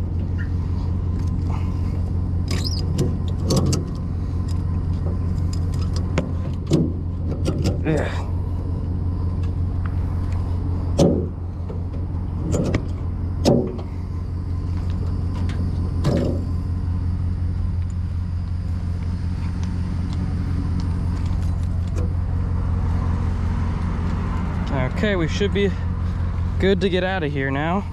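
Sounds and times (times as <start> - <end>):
vehicle engine idling: 0.0 - 27.9.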